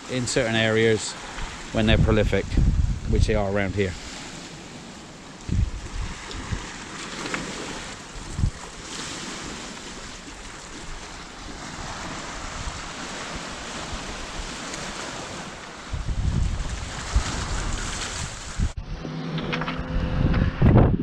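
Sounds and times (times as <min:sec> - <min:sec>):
surf washing on shingle: 0:00.0 - 0:18.8
wind buffeting microphone: 0:01.2 - 0:21.0.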